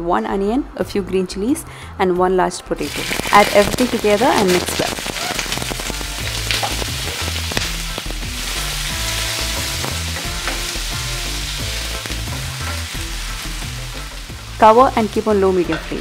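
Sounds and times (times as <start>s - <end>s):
background music: 0.0s - 16.0s
vegetables sizzling in oil: 2.8s - 16.0s.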